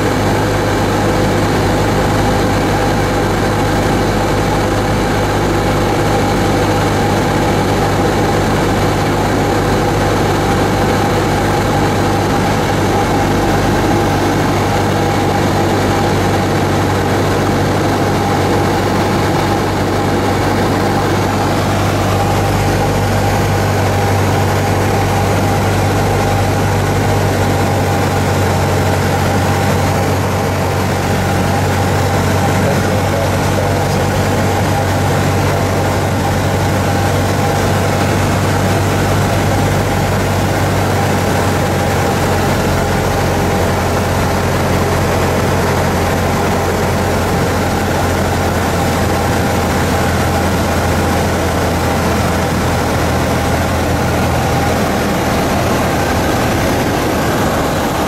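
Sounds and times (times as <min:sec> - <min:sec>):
airplane engine and propeller: 0:00.0 - 0:58.0.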